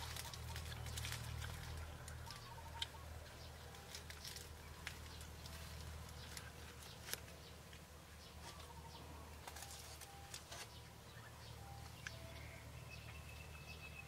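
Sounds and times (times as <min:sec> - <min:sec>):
distant bird calls: 0:00.0 - 0:14.0
steady low hum: 0:00.0 - 0:14.0.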